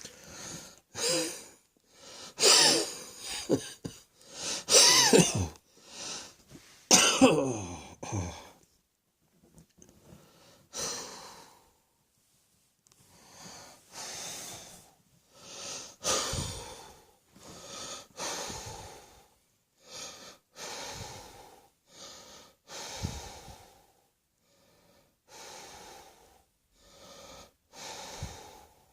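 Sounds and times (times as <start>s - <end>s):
person breathing hard: 0.0s - 6.9s, 7.5s - 8.6s, 10.0s - 12.0s, 13.0s - 28.9s.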